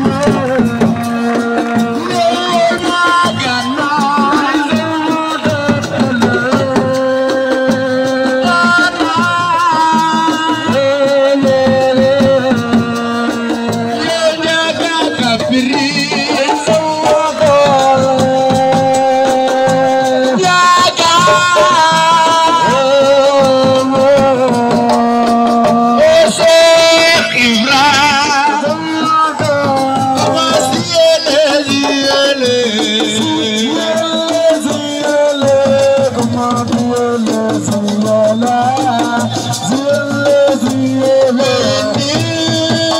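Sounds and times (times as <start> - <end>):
person singing wavering melody: 0.0 - 42.9
steady percussion: 0.0 - 42.9.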